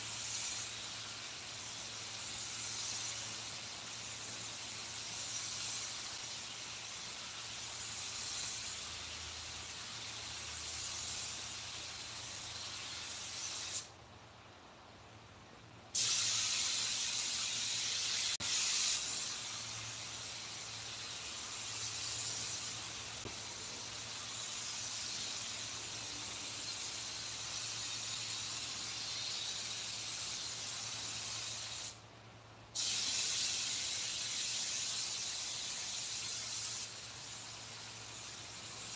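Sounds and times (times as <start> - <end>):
compressed air gun hissing: 0.0 - 13.9, 15.9 - 32.0, 32.8 - 38.9.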